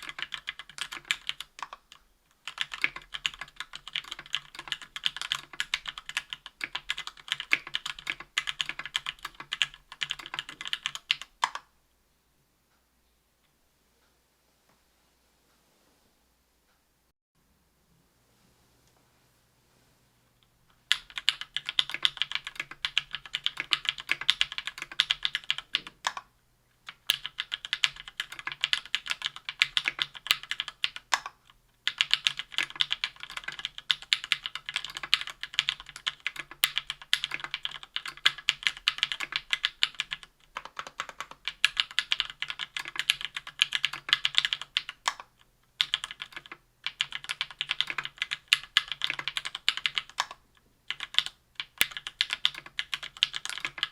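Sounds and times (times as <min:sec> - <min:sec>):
keyboard typing clicks: 0:00.0 - 0:11.7, 0:20.9 - 0:26.3, 0:26.9 - 0:53.9.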